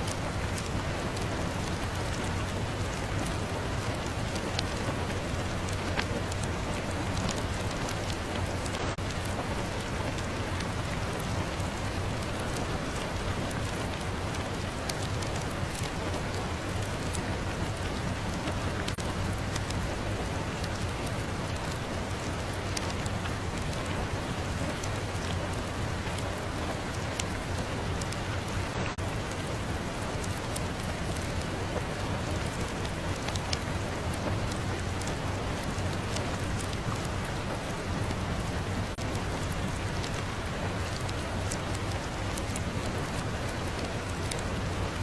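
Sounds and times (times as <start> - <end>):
fireplace crackling: 0.0 - 45.0
steady rain: 0.0 - 45.0.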